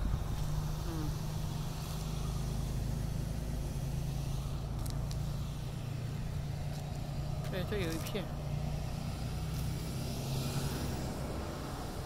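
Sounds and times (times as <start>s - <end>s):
faint background rumble: 0.0s - 12.0s.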